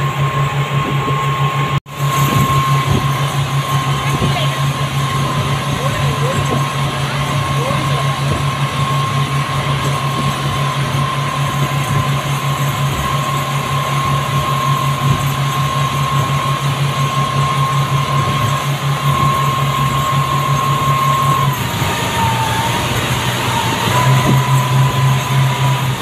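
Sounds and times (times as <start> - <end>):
high whine: 0.0 - 26.0
outboard motors droning: 0.0 - 26.0.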